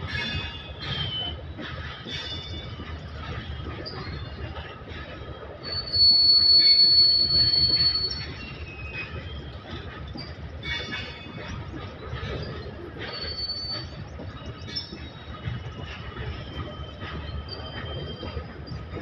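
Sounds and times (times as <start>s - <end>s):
loud high steady squeal: 0.0s - 19.0s
metallic wheel squeals: 0.0s - 19.0s
train wagons rumbling past: 0.0s - 19.0s.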